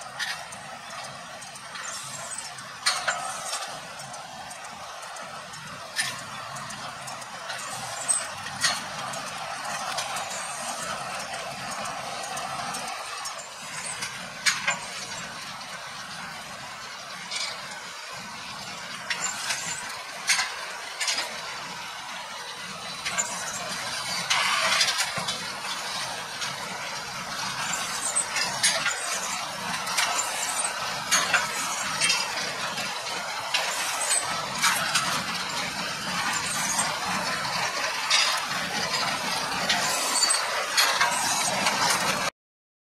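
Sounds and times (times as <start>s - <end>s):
baling machinery clatter: 0.0s - 42.3s
tractor and baler running: 0.0s - 42.3s.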